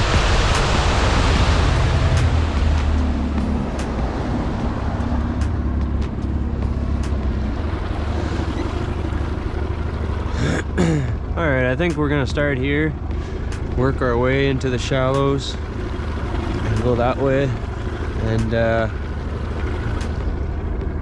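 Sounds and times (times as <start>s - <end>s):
boat motor running: 0.0s - 21.0s
water rushing along hull: 0.0s - 21.0s.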